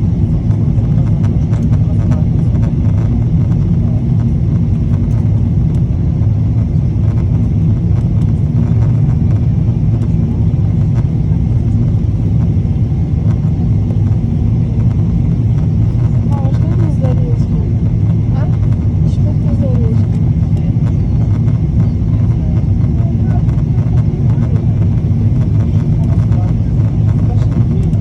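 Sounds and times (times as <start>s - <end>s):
vehicle engine rumble: 0.0s - 28.0s.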